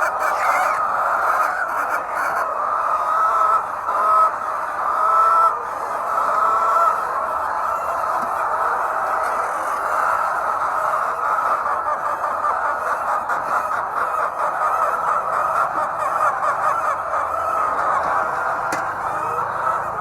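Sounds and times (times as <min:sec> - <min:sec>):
flock of hens clucking: 0:00.0 - 0:20.0.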